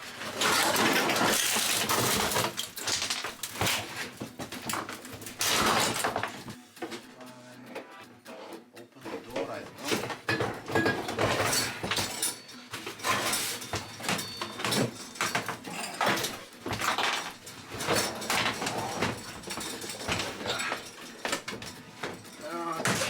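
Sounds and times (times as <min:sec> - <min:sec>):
hand tools knocking and scraping: 0:00.1 - 0:07.0, 0:09.0 - 0:23.0.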